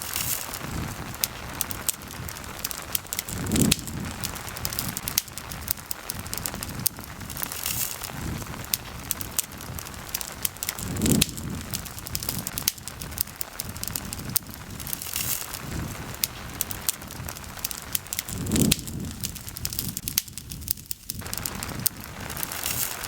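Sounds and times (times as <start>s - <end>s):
campfire crackling: 0.0s - 23.0s
rain hissing: 0.0s - 23.0s.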